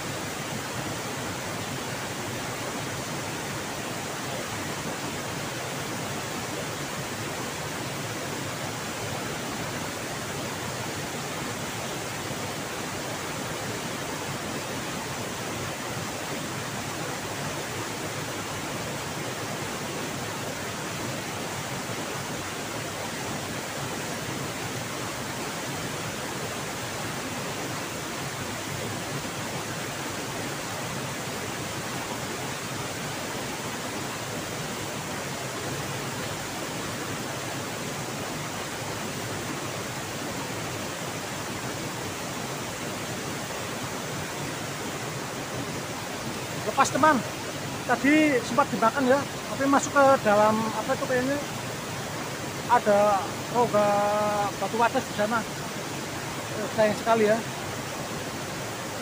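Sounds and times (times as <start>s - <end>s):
river rushing at waterfall: 0.0s - 59.0s.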